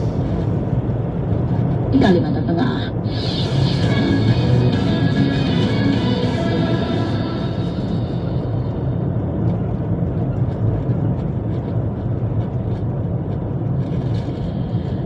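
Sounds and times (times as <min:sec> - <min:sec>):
vehicle driving on paved road: 0:00.0 - 0:15.0.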